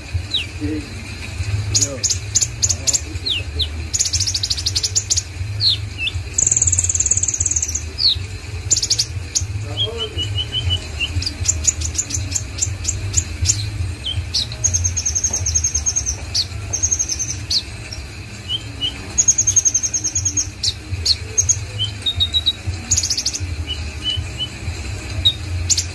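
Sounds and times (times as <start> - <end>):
bird singing high chirps and trills: 0.0 - 25.9.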